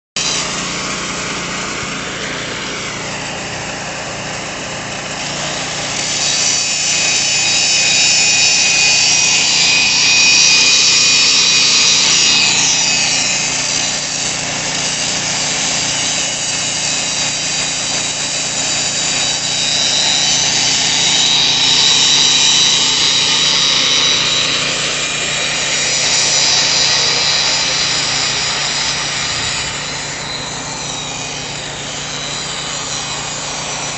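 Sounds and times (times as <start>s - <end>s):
power grinder grinding concrete: 0.2s - 33.9s.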